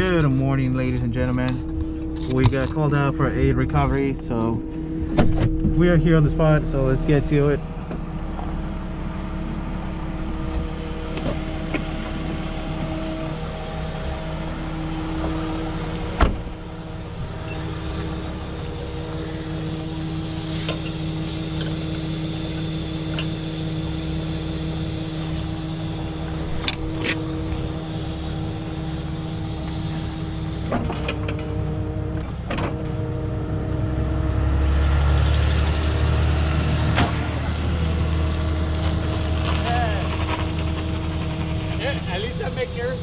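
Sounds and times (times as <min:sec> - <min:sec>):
hydraulic pump whining: 0:00.0 - 0:43.0
truck engine running: 0:00.0 - 0:43.0.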